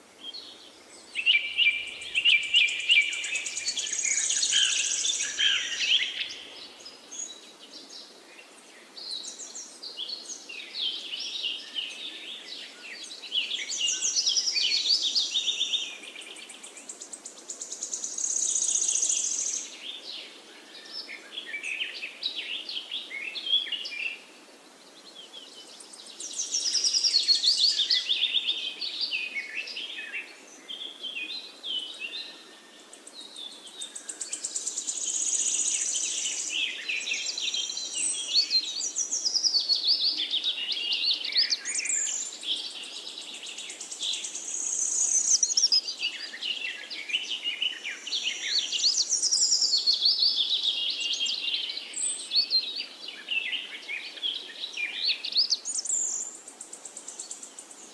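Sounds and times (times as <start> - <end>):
songbirds chirping and singing: 0.1 - 57.9.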